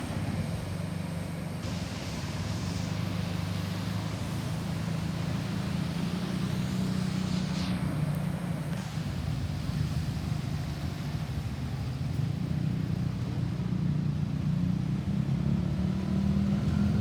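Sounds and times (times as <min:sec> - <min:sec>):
outdoor street noise: 0:00.0 - 0:17.0
vehicle engine running: 0:00.0 - 0:17.0.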